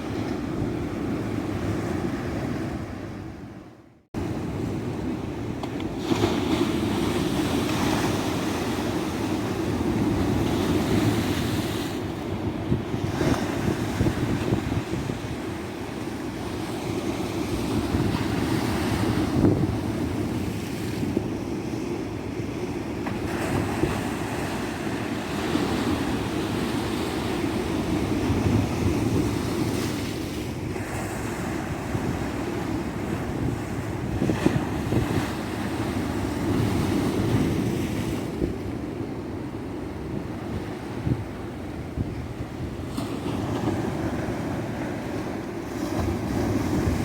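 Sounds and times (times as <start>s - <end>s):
wind buffeting microphone: 4.2s - 21.5s, 22.6s - 47.0s.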